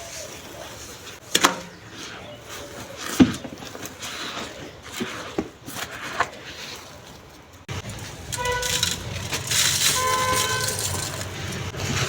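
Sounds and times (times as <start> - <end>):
sand clumps crunching on clay pot: 0.0 - 12.0.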